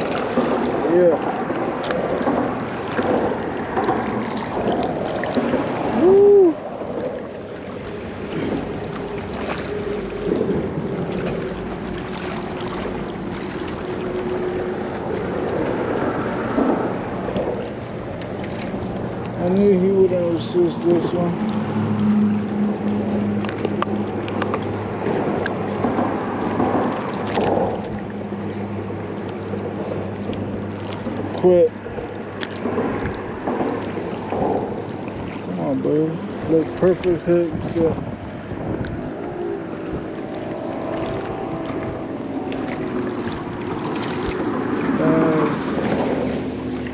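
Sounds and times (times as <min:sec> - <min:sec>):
flowing river water: 0:00.0 - 0:46.9
wind buffeting microphone: 0:00.0 - 0:46.9.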